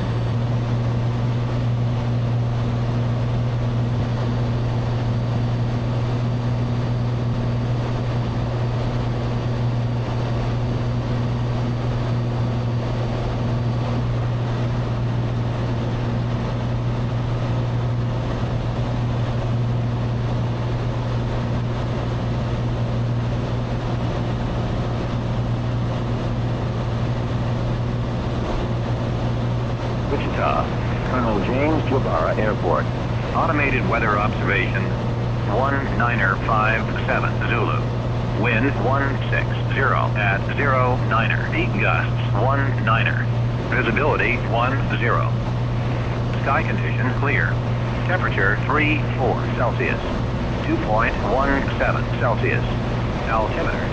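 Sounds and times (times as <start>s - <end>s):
propeller plane engine drone: 0.0s - 53.9s.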